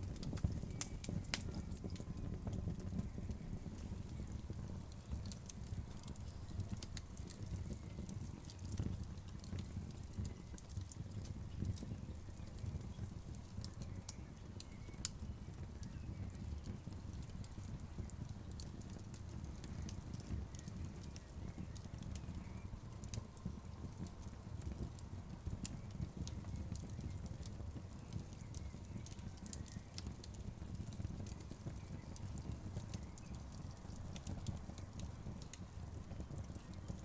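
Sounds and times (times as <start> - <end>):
logs crackling and popping: 0.0 - 37.0
low rumble of flames: 0.0 - 37.0.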